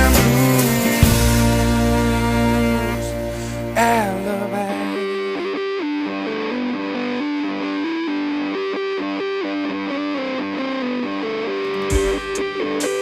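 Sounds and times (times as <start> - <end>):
rock guitar melody over backing: 0.0 - 13.0.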